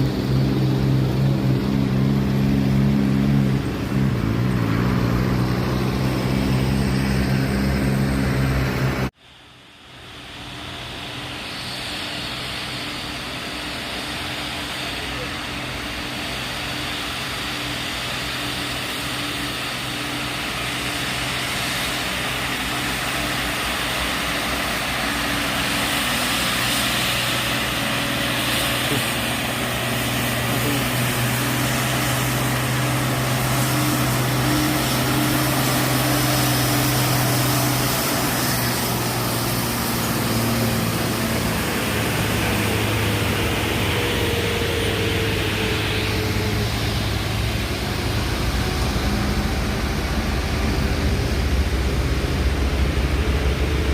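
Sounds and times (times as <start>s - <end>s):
heavy truck engine running: 0.0s - 53.9s.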